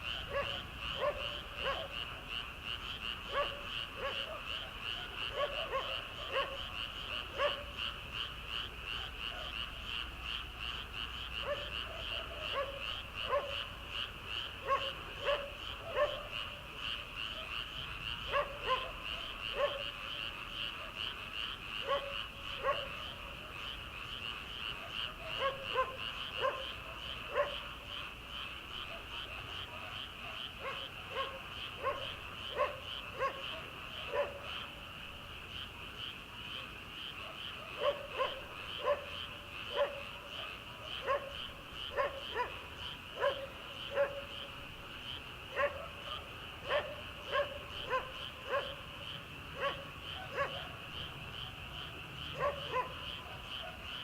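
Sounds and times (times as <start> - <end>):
frogs trilling: 0.0 - 54.0
lower frog calls: 0.0 - 54.0.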